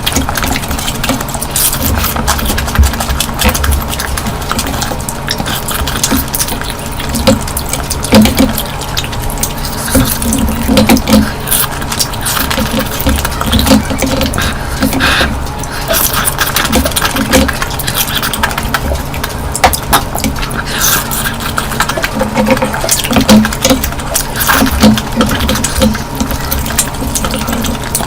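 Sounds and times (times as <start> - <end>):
wet chewing and slurping: 0.0 - 28.0.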